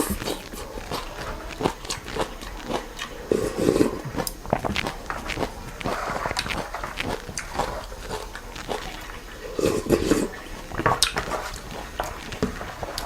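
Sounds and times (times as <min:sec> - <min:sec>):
mouth clicks and smacks: 0:00.0 - 0:13.0
wet chewing and slurping: 0:00.0 - 0:13.0.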